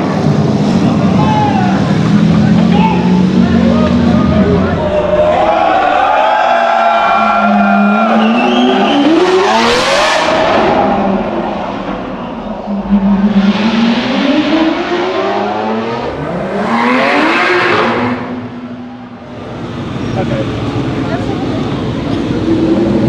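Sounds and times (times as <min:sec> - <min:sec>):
car engines revving in a tunnel: 0:00.0 - 0:23.0.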